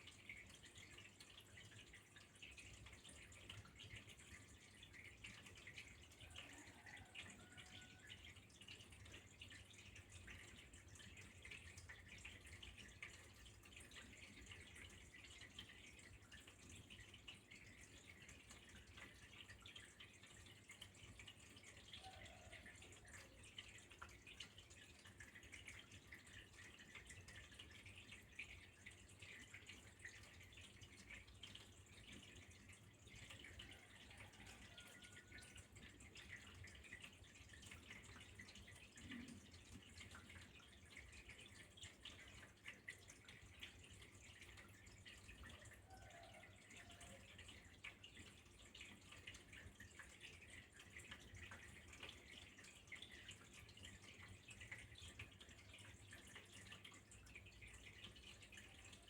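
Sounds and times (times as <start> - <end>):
faint trickle of flowing water: 0.0 - 59.0
water dripping and splashing: 0.0 - 59.0.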